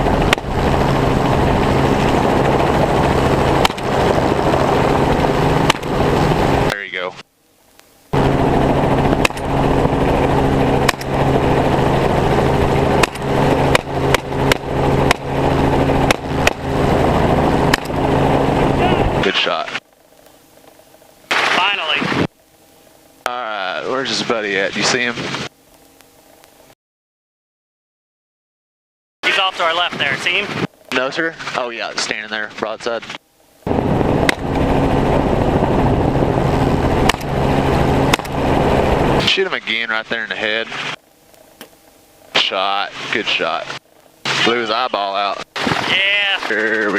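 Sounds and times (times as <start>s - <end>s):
helicopter engine and rotor: 0.0s - 26.4s, 29.2s - 46.9s.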